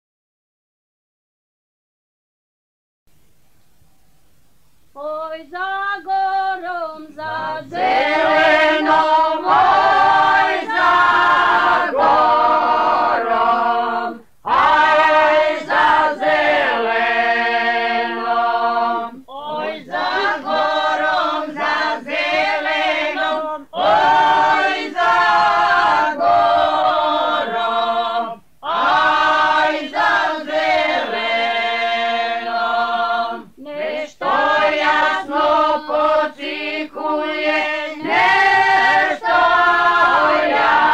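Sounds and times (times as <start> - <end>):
group singing unaccompanied: 5.0 - 40.9.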